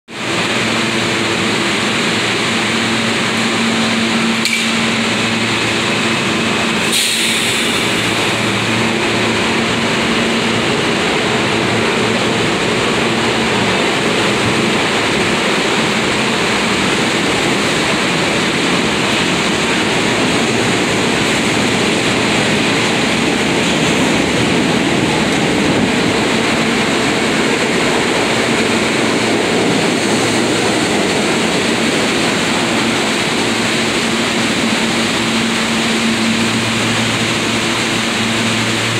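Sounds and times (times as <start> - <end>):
train wheels rumbling on rail: 0.1 - 38.9
low motor hum: 0.2 - 38.9.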